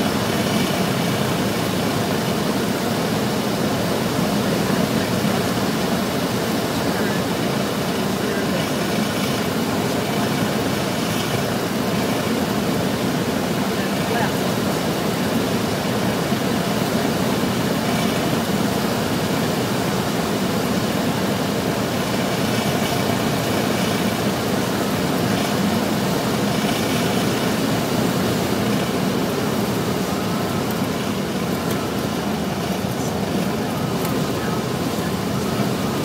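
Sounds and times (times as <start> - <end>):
airflow noise: 0.0 - 36.0
propeller plane engine drone: 0.0 - 36.0.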